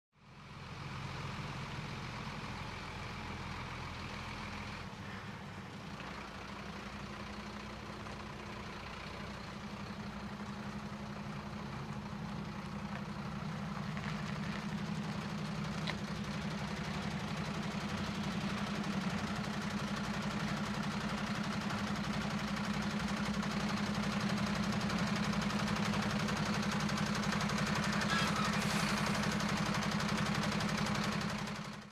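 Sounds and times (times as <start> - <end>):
truck diesel engine reversing: 0.2 - 31.9.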